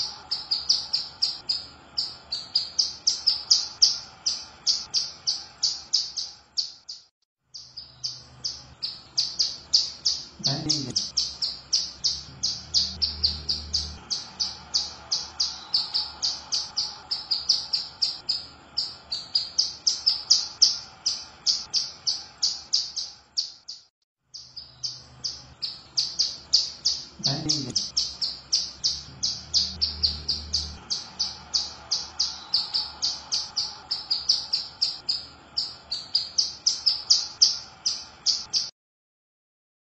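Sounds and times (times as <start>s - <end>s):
bird calling in high chirps: 0.0s - 38.7s.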